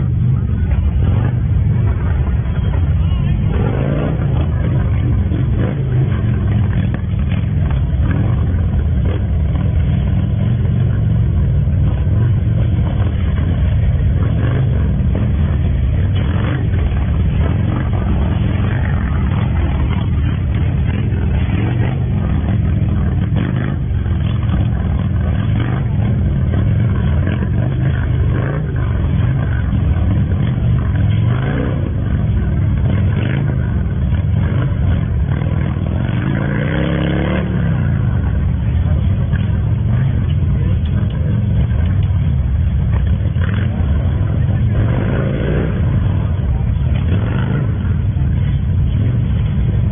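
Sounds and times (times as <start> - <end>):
motorcycle engines running: 0.0 - 49.9.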